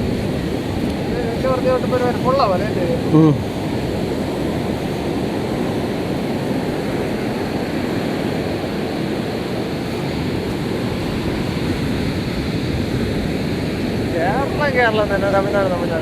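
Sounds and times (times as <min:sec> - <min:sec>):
sea surf washing on shore: 0:00.0 - 0:16.0
wind on microphone: 0:00.0 - 0:16.0.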